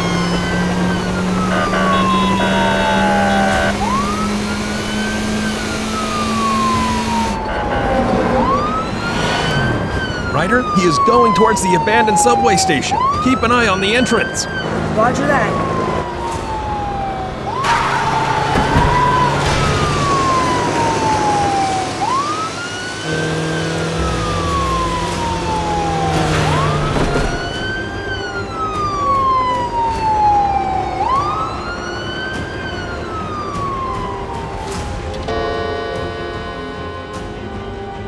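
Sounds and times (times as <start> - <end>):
police siren wailing: 0.0 - 38.0
vehicle noise: 0.0 - 38.0.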